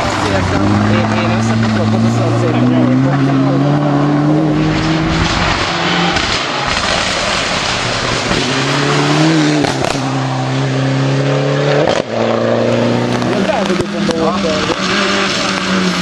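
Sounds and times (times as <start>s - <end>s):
rally car engine running hard: 0.0s - 16.0s
tyre and road noise: 0.0s - 16.0s.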